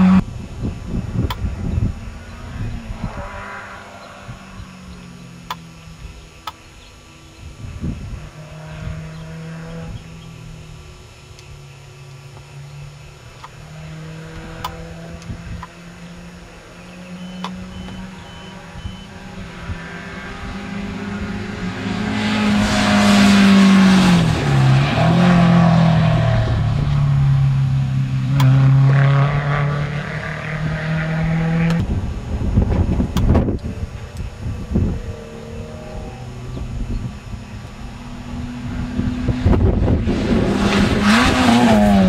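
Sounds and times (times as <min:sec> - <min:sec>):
rally car engine passing by: 0:00.9 - 0:06.2, 0:07.8 - 0:10.6, 0:13.6 - 0:42.0.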